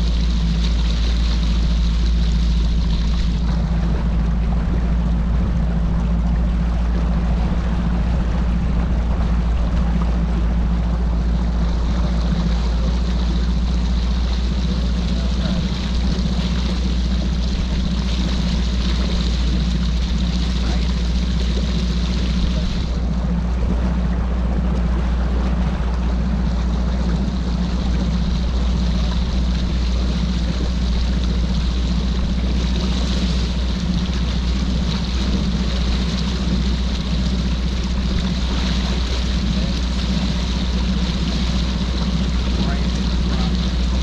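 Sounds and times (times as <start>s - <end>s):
outboard motor droning: 0.0s - 44.0s
water and wind hiss: 0.0s - 44.0s.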